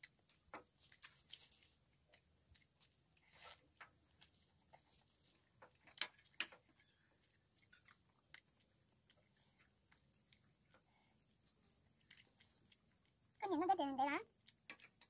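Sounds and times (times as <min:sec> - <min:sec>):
person chewing: 0:00.0 - 0:13.4, 0:14.3 - 0:15.0.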